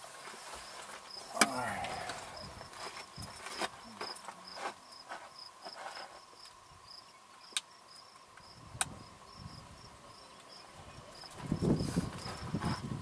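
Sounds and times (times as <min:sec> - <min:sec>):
insect chirping: 0:00.4 - 0:13.0.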